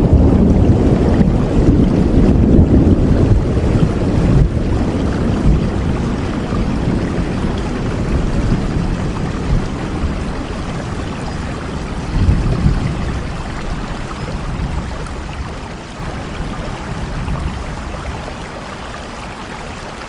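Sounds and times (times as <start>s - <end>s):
low rumble: 0.0s - 18.4s
steady rain hiss: 0.0s - 20.0s.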